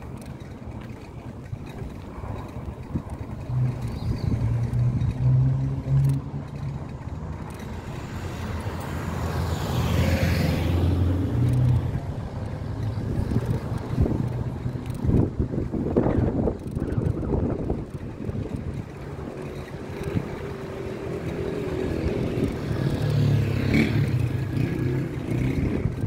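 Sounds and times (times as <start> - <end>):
vehicle engine humming: 0.0 - 26.0
vehicle passing: 2.1 - 16.5, 17.1 - 26.0.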